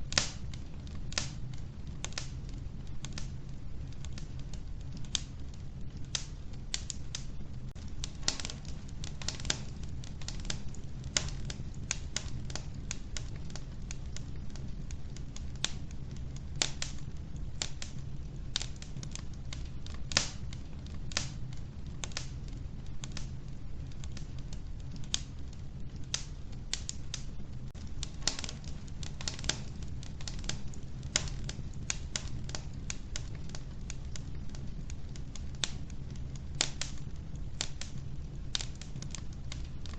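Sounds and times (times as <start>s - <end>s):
low rumble of stove fire: 0.0s - 39.9s
wood fire crackling and popping: 0.0s - 39.9s.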